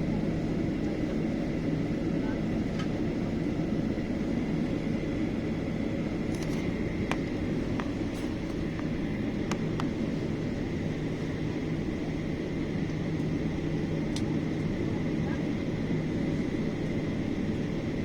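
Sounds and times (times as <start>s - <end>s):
aircraft engine hum with high whine: 0.0s - 18.0s.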